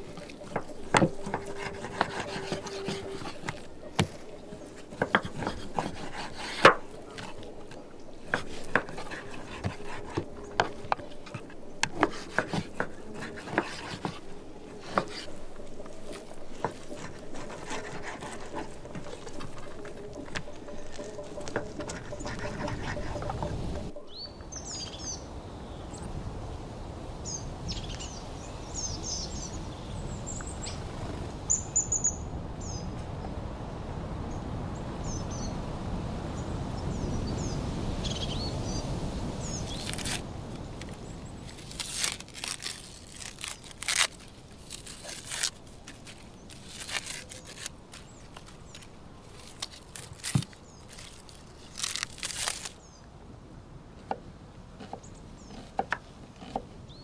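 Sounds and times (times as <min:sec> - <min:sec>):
small birds chirping: 0:00.0 - 0:26.1, 0:27.2 - 0:33.4, 0:36.3 - 0:53.1, 0:54.8 - 0:57.0
low background noise: 0:00.0 - 0:57.0.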